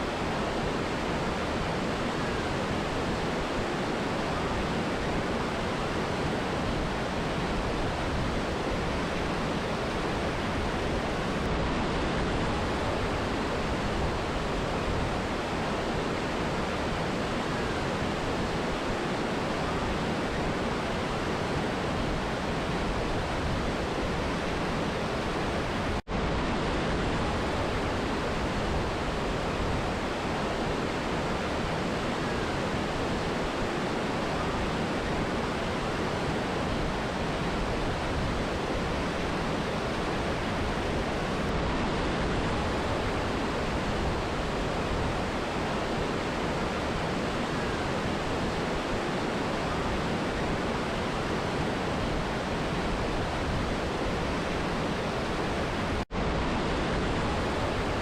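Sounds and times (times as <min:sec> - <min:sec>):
river and waterfall rushing: 0:00.0 - 0:58.0.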